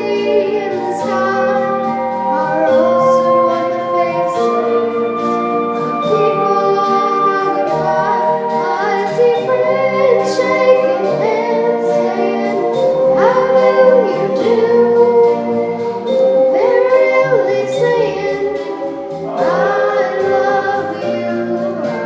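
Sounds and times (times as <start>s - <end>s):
young female voice singing: 0.0s - 5.4s, 6.0s - 15.8s, 16.5s - 22.0s
instrumental accompaniment: 0.0s - 22.0s.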